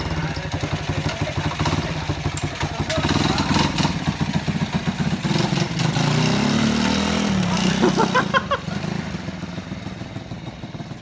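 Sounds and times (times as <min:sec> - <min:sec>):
moped engine revving: 0:00.0 - 0:11.0.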